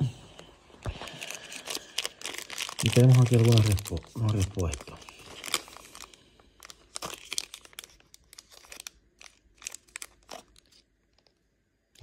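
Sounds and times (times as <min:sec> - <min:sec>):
plastic packaging crinkling: 0:00.8 - 0:11.4.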